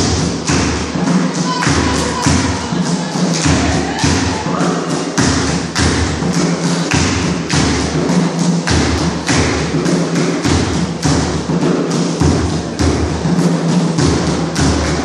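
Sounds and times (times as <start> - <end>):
large hand drums beating: 0.0 - 15.0.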